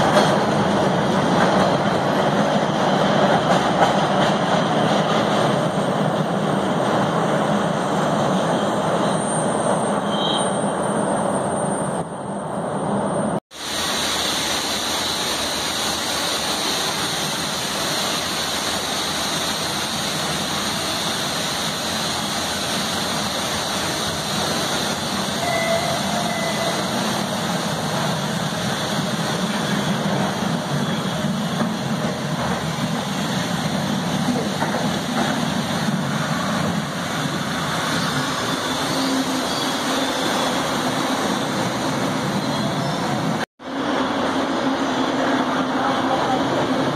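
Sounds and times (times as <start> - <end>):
subway train running into station: 0.0 - 46.9.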